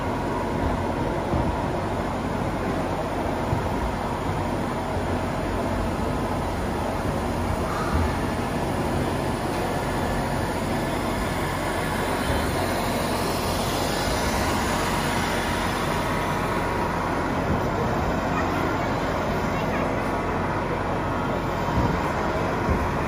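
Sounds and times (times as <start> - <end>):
busy exhibition hall din: 0.0 - 23.0
model excavator mechanical drone: 0.0 - 23.0.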